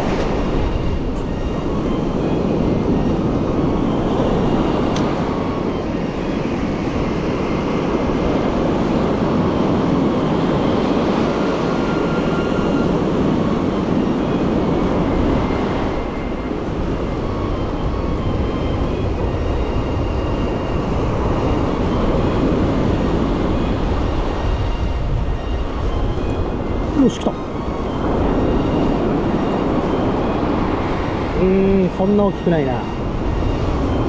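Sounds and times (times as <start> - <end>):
wind roaring: 0.0 - 34.0.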